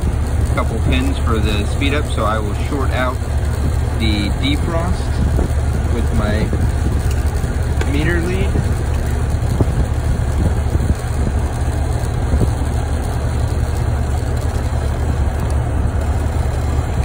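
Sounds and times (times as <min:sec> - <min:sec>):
heat pump humming: 0:00.0 - 0:17.0.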